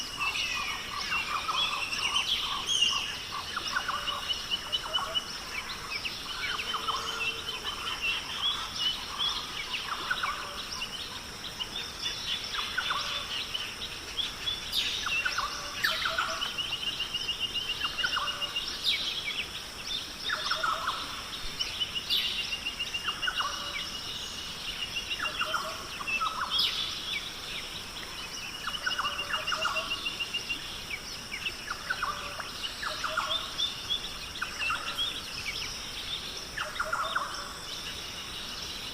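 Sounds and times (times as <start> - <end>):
birds calling and singing: 0.0 - 38.9
steady high hiss: 0.0 - 38.9.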